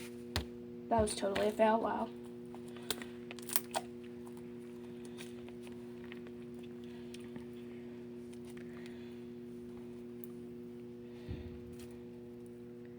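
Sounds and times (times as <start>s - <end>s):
steady electrical hum: 0.0s - 12.9s.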